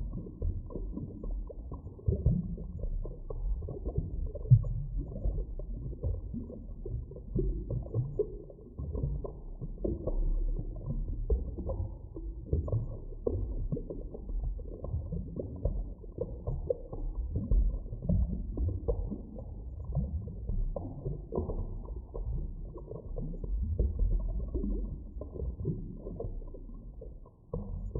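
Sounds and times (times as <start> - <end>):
bubbling pops and knocks: 0.0 - 27.9
low underwater rumble: 0.0 - 27.9.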